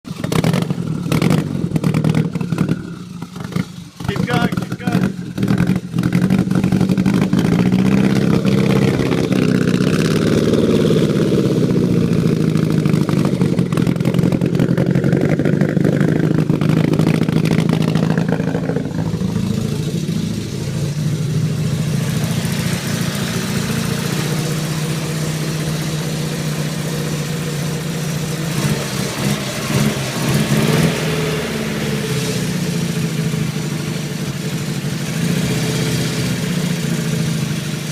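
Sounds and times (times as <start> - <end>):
car engine idling unevenly: 0.1 - 37.9.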